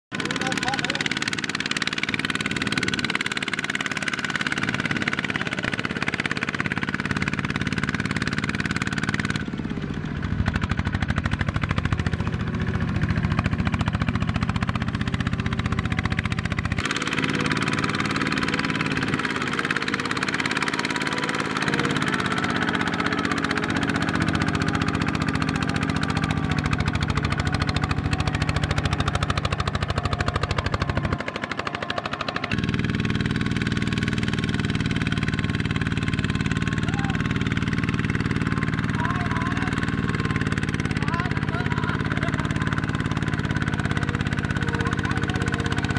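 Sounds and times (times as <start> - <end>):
diesel tractor engine chugging: 0.1 - 45.9.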